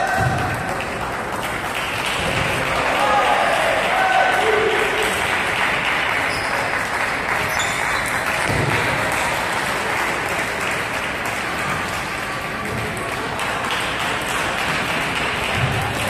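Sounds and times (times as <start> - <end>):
crowd applause: 0.0 - 16.0.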